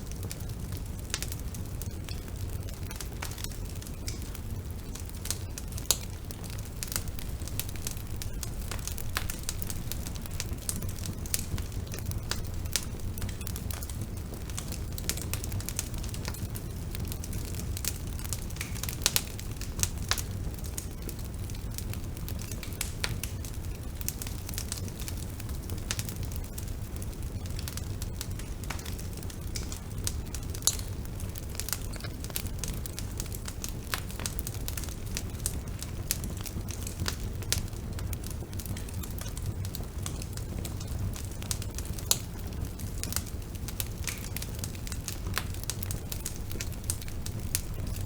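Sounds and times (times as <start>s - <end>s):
bonfire flames rumbling: 0.0s - 48.0s
fire crackling and popping: 0.0s - 48.0s.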